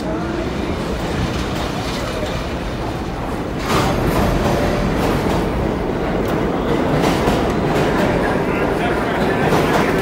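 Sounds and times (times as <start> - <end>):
subway train rumbling: 0.0 - 10.0.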